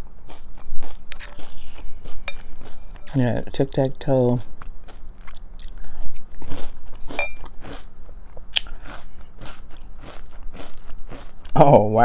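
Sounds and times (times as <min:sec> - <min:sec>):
cereal crunching while chewed: 0:00.0 - 0:11.6.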